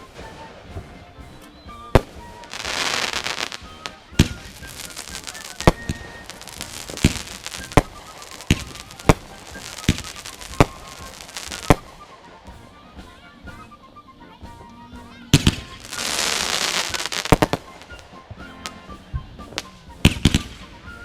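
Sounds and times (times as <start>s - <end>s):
fireworks sharp bangs: 0.0s - 12.4s, 15.1s - 21.0s
fireworks crackling: 0.0s - 21.0s.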